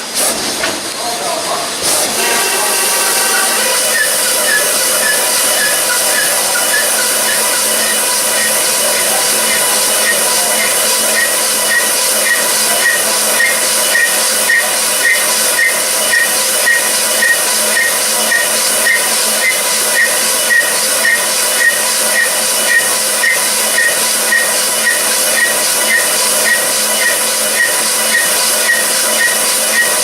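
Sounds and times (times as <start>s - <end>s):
machine running with loud hiss: 0.0s - 30.0s.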